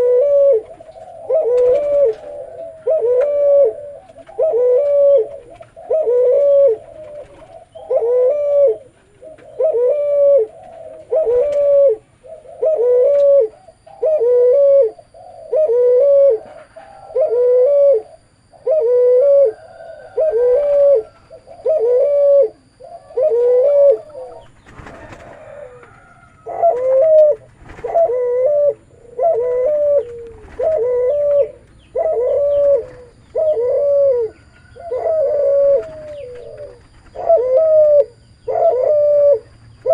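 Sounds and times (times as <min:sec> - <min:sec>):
dove cooing low: 0:00.0 - 0:39.9.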